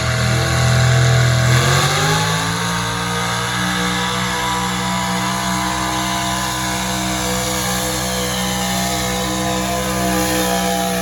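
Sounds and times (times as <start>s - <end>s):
tractor engine revving: 0.0s - 11.0s.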